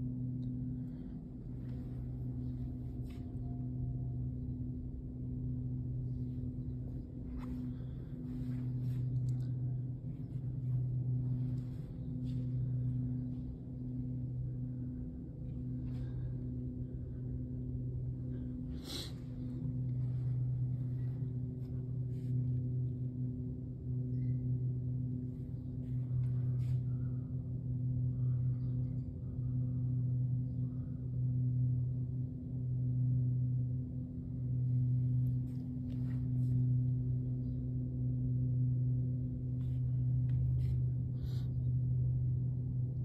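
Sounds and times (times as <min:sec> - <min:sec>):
low gong-like droning hum: 0:00.0 - 0:43.0.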